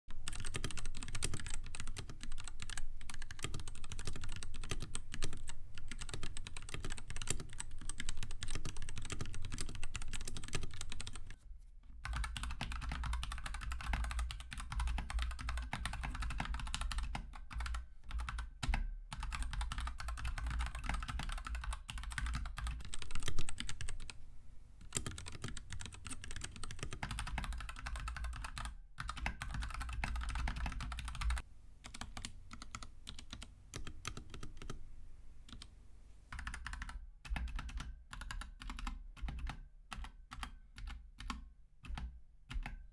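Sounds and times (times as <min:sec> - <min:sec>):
fast typing on mechanical keyboard: 0:00.2 - 0:11.4, 0:12.0 - 0:24.2, 0:24.8 - 0:34.8, 0:36.4 - 0:42.8.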